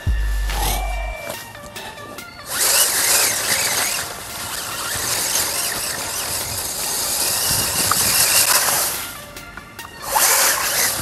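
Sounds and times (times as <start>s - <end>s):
tyres crunching through dry leaves: 0.0s - 9.2s
toy truck motor and gears whining: 0.0s - 11.0s.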